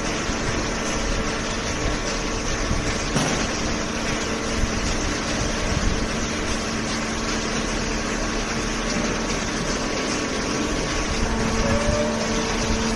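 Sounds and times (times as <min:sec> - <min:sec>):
baler machine humming: 0:00.0 - 0:12.9.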